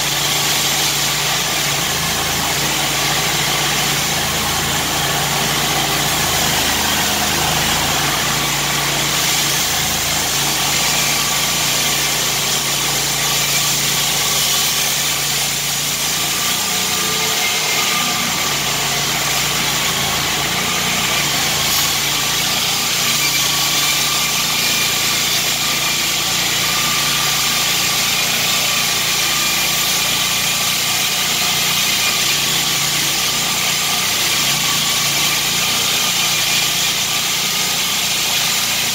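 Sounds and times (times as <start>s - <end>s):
blade cutting concrete: 0.0s - 38.9s
concrete saw engine running: 0.0s - 38.9s.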